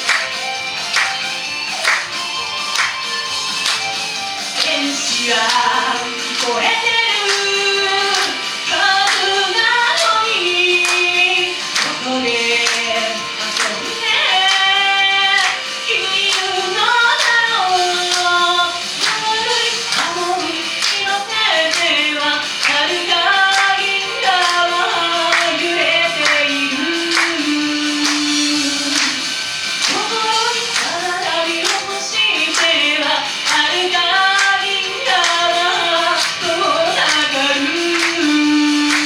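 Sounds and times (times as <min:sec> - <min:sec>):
pop backing track with beat: 0:00.0 - 0:39.0
female voices singing: 0:04.5 - 0:39.0.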